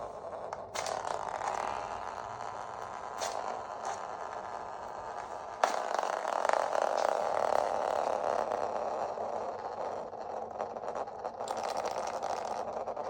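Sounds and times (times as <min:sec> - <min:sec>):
spinning top whirring and scraping: 0:00.0 - 0:13.0.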